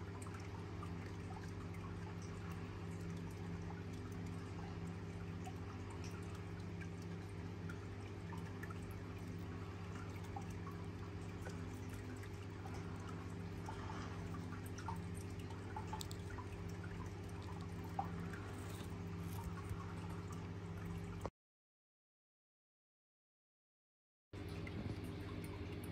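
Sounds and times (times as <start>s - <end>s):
faint ticks and drips: 0.0s - 21.3s, 24.4s - 25.9s
steady low hum: 0.0s - 21.3s, 24.4s - 25.9s.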